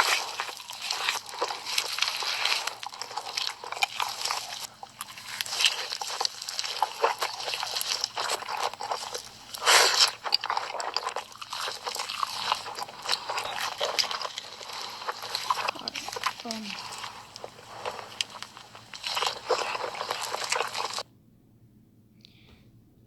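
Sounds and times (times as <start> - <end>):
crunching and chewing snacks: 0.0 - 21.0.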